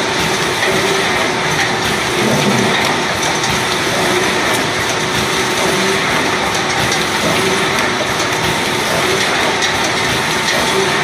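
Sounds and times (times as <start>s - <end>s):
machine running with fine ticking: 0.0s - 11.0s.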